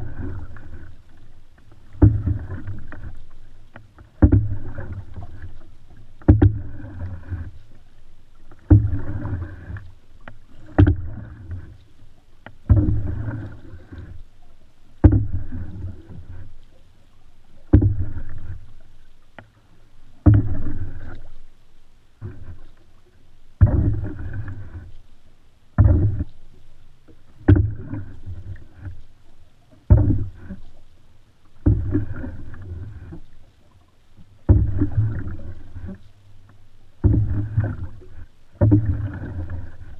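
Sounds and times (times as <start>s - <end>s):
canoe paddle knocking: 0.0s - 21.5s, 23.5s - 25.0s, 25.7s - 39.9s
water splashing: 0.0s - 39.9s.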